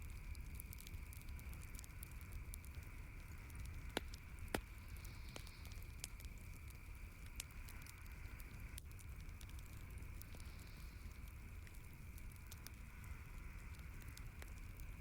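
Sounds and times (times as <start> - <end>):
campfire crackling and popping: 0.0 - 15.0
soft hiss: 0.0 - 15.0.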